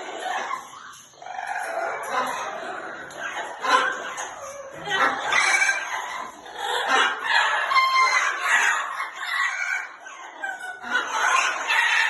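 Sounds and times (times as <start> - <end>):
birds calling and squawking: 0.0 - 12.0.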